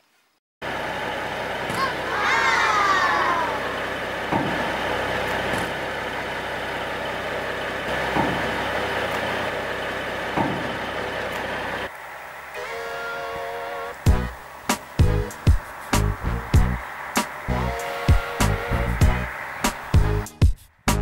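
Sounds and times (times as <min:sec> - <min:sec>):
truck engine and road noise: 0:00.6 - 0:21.0.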